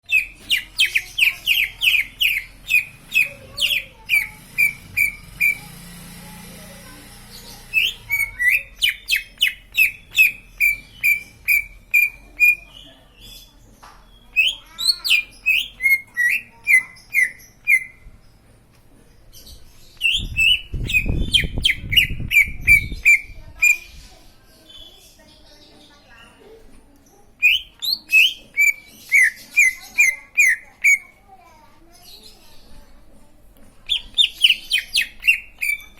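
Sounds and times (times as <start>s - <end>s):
bird chirping: 0.0s - 33.0s, 33.8s - 35.9s.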